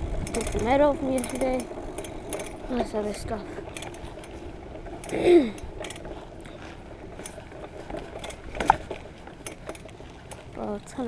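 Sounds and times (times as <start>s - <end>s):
bicycle freewheel ticking: 0.0s - 11.0s.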